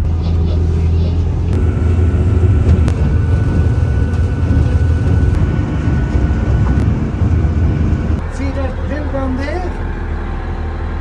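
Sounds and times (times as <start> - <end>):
vehicle engine low drone: 0.0 - 11.0.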